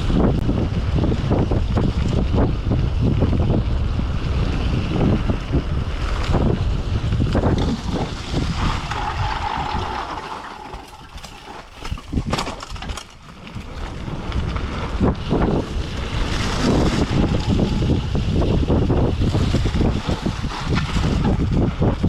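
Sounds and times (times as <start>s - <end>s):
bike rattling: 0.0s - 22.0s
bike tyre rumble: 0.0s - 22.0s
wind buffeting microphone: 0.0s - 22.0s.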